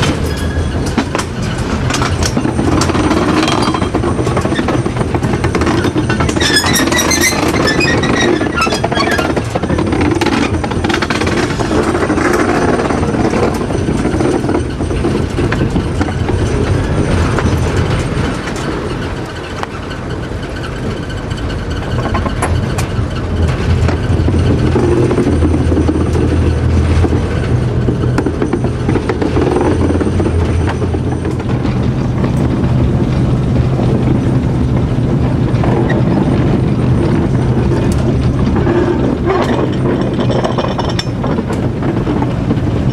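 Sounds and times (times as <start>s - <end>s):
clicks and knocks of wheels: 0.0s - 42.9s
diesel engine droning: 0.0s - 42.9s
wheels rumbling on rails: 0.0s - 42.9s.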